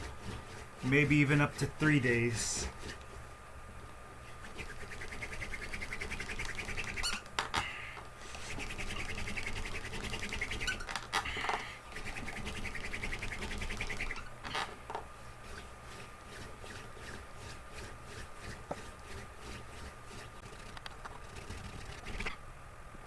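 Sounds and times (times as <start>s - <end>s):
wooden hand drill squeaking: 0.0s - 1.8s, 2.6s - 3.3s, 4.4s - 7.7s, 8.5s - 22.4s.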